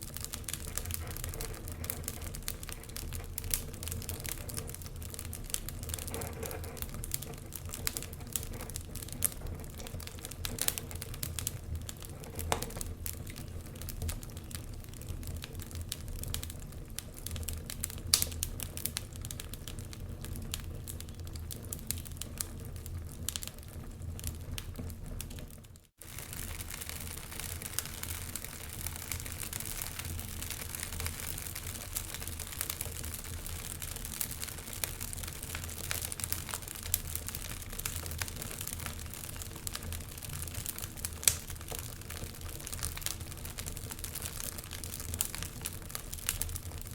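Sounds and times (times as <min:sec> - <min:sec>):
logs crackling in fireplace: 0:00.0 - 0:46.9.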